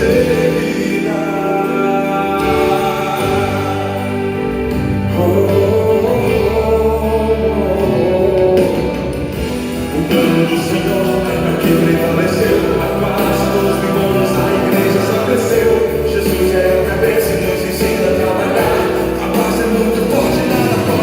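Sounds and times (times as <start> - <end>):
band and keyboard chords: 0.0 - 21.0
person singing: 0.0 - 21.0.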